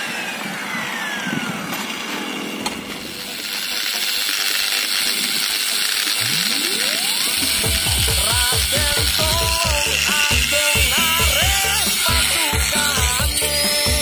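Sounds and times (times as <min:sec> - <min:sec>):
power tool motor winding down: 0:00.0 - 0:14.0.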